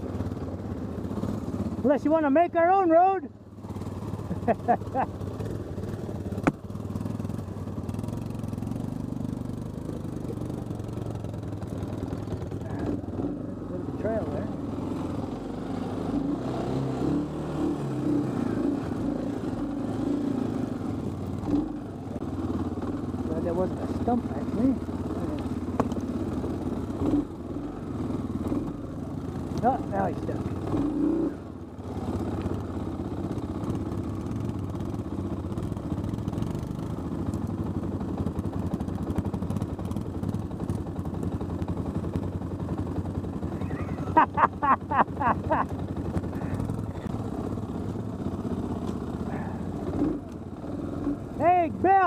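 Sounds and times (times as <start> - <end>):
quad engine under load: 0.0 - 52.0.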